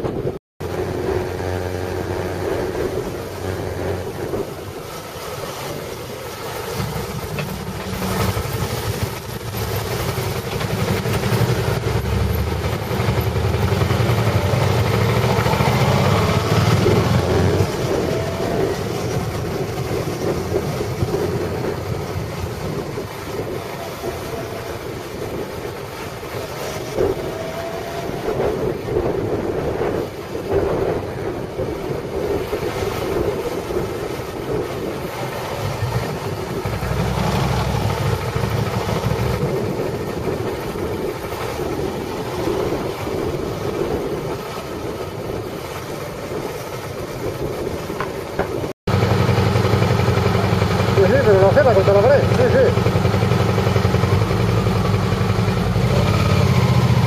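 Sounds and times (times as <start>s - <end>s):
wind on microphone: 0.0s - 52.8s
motorcycle engine running: 0.0s - 57.0s.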